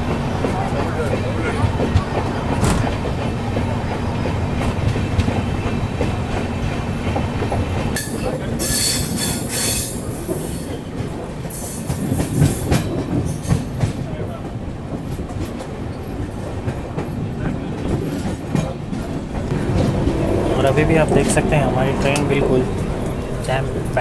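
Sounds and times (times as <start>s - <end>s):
train wheels clacking on rails: 0.0s - 24.0s.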